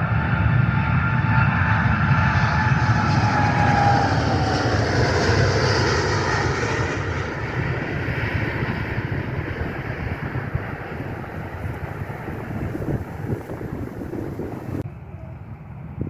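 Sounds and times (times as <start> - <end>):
airplane passing by: 0.0 - 16.0.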